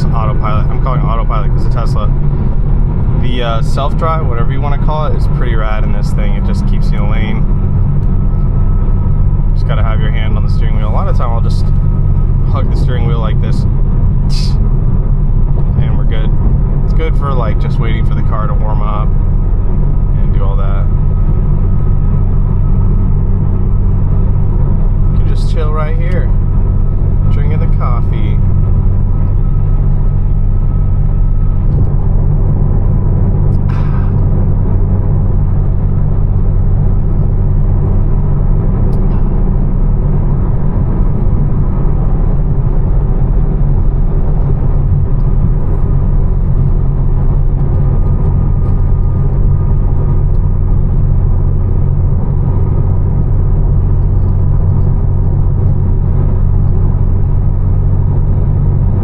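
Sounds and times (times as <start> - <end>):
exhaust drone: 0.0 - 59.0
road noise: 0.0 - 59.0.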